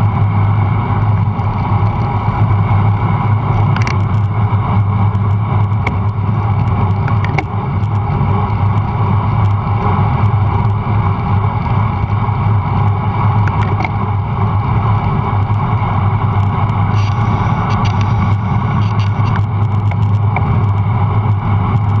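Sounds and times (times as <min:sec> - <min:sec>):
bicycle tyres rolling on asphalt: 0:00.0 - 0:22.0
wind rushing over microphone: 0:00.0 - 0:22.0.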